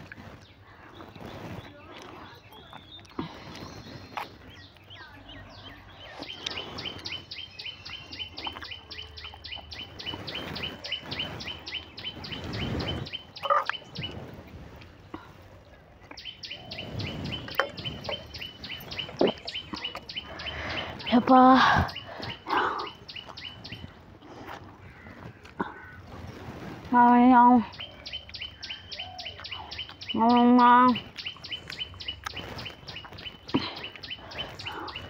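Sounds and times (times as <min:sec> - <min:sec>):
bird chirping rapidly: 0:00.4 - 0:14.4, 0:16.1 - 0:24.0, 0:27.3 - 0:35.0.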